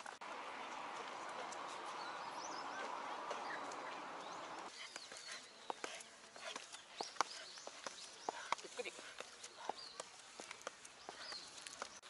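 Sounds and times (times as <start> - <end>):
small birds chirping: 0.0 - 12.0
steady outdoor hiss: 0.0 - 12.0
footsteps clicking on stone steps: 0.9 - 12.0.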